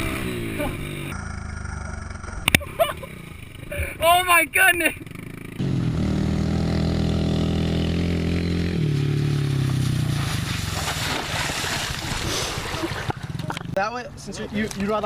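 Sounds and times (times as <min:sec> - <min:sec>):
pit bike engine running: 0:00.0 - 0:13.9.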